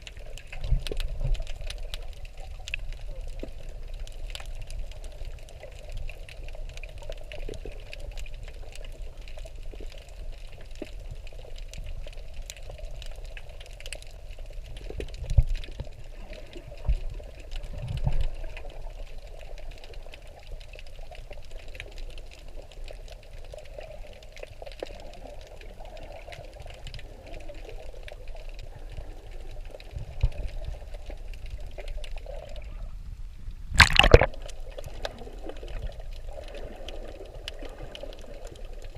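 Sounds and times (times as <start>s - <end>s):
water sloshing and bubbling: 0.0s - 38.9s.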